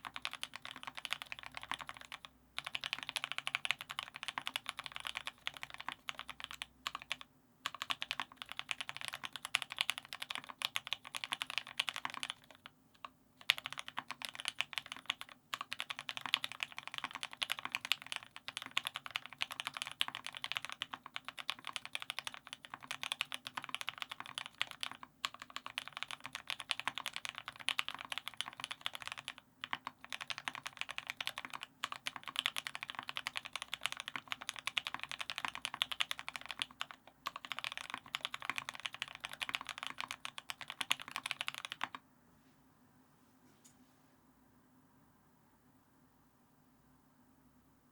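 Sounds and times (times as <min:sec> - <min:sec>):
fast mechanical keyboard typing: 0:00.0 - 0:42.0.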